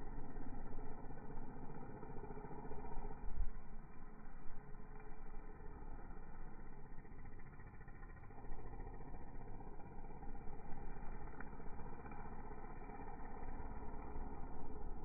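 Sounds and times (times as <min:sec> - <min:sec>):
string trimmer engine running: 0:00.0 - 0:15.0.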